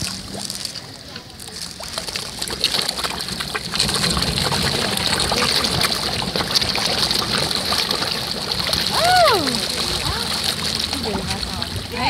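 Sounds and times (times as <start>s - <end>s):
fish splashing at water surface: 0.0s - 12.0s.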